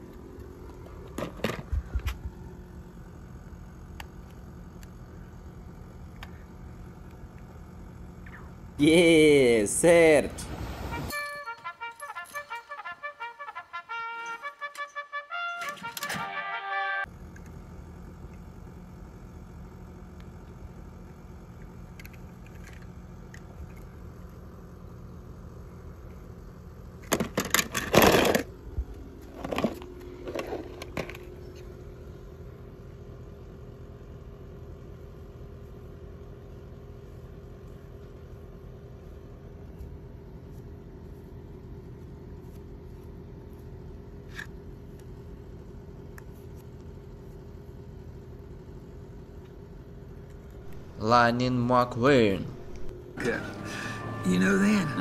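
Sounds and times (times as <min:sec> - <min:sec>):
steady low hum: 0:00.0 - 0:15.6, 0:17.0 - 0:55.0.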